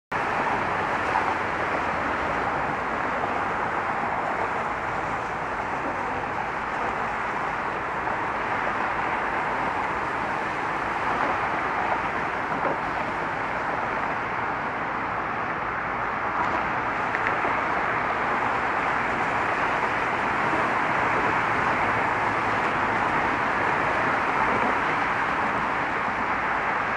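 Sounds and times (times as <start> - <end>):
traffic passing on busy road: 0.1 - 26.9.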